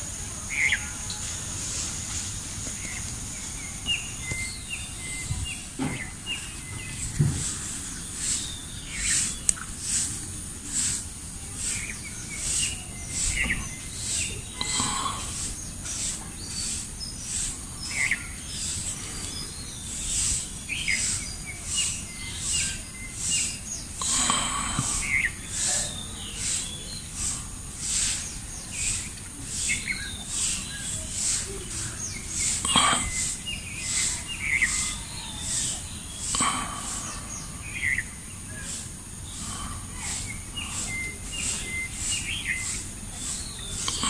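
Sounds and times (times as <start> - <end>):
bird chirps: 2.6 - 44.0.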